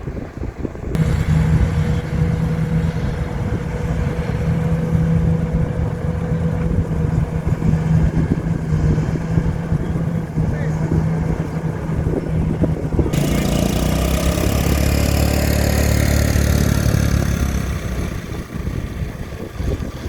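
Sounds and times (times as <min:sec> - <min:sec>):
diesel engine running: 0:00.9 - 0:20.0.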